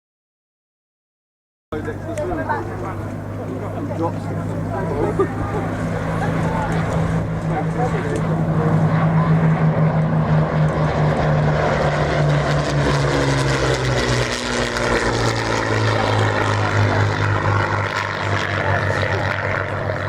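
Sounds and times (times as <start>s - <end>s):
propeller plane engine droning: 1.7s - 20.0s.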